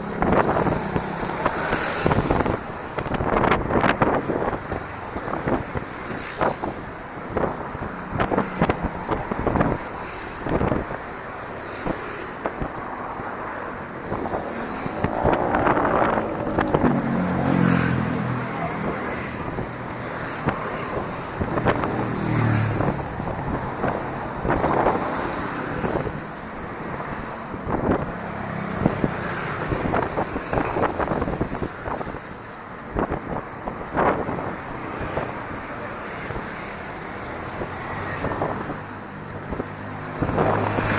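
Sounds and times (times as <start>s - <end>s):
bicycle rattling over bumps: 0.0s - 40.9s
wind on microphone: 0.0s - 40.9s.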